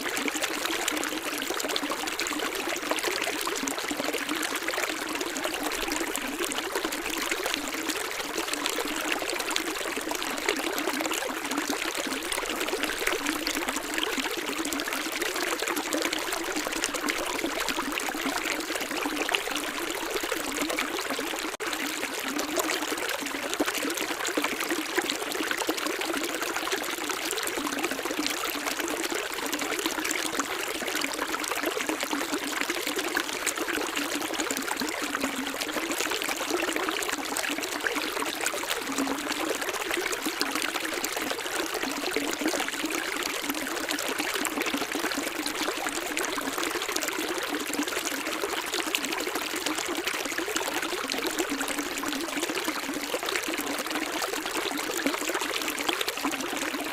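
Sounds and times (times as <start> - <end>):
stream water trickling: 0.0 - 56.9.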